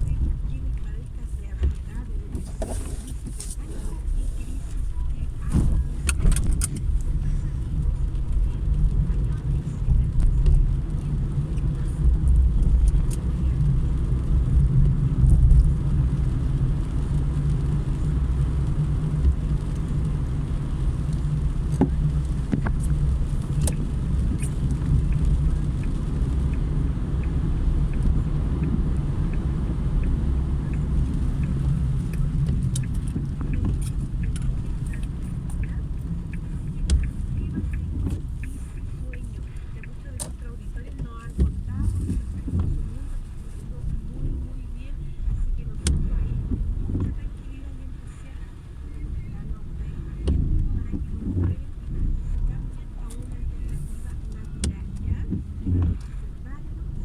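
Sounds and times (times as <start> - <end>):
car engine and tyres rumbling: 0.0 - 57.0
light ticks: 0.1 - 57.0.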